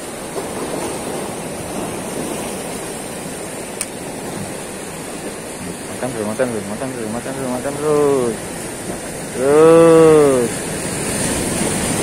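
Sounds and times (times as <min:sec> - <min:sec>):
surf breaking over rocks: 0:00.0 - 0:12.0.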